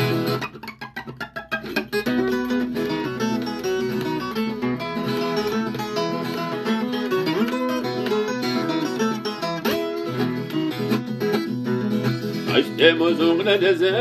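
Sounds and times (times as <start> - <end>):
plucked folk guitar: 0.0 - 14.0.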